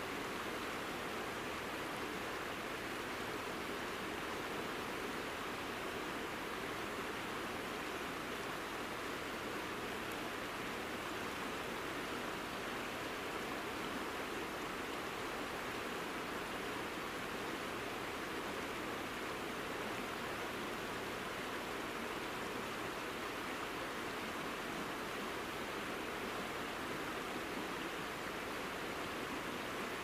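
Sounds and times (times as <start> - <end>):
mountain river rushing: 0.0 - 30.0.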